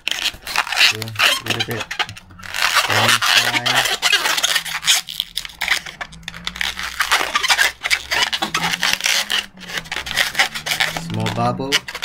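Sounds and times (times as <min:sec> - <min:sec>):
balloons rubbing and squeaking: 0:00.0 - 0:12.0.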